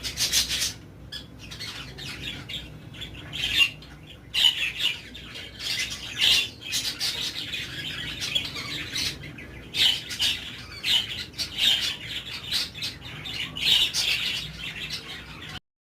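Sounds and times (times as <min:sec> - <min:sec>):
caged birds chirping and squawking: 0:00.0 - 0:15.6.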